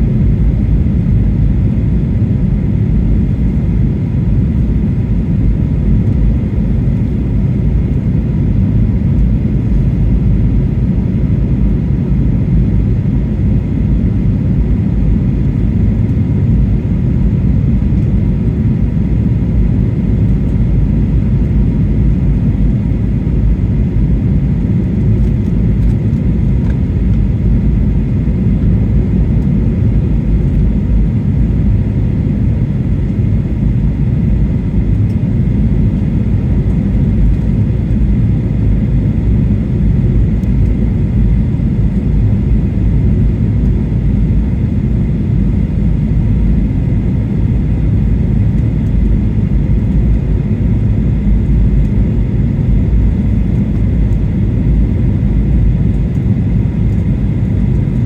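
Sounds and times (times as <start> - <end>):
low rumble of engines and airflow: 0.0 - 58.0.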